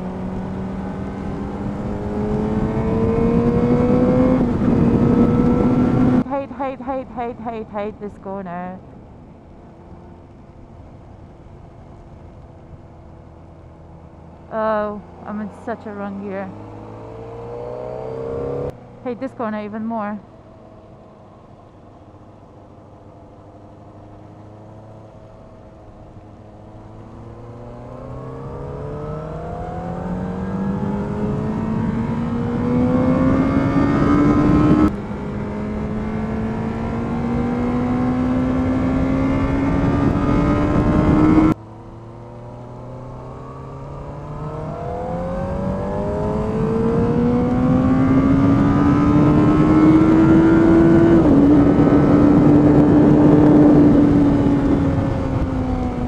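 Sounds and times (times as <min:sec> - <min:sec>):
motorcycle engine revving: 0:00.0 - 0:08.2, 0:13.3 - 0:56.0.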